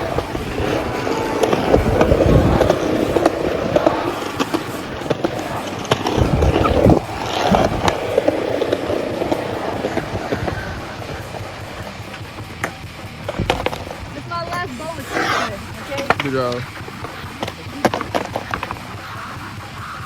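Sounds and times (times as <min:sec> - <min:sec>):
skateboard clacks and knocks: 0:00.0 - 0:20.0
skateboard wheels rumbling: 0:00.0 - 0:20.0.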